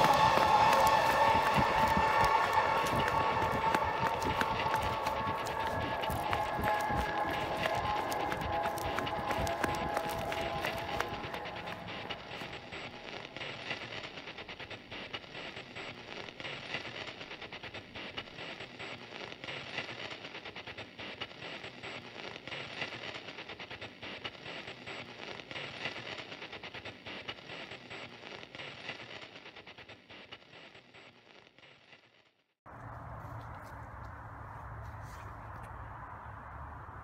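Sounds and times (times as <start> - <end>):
dense crackling over hiss: 0.0 - 37.0.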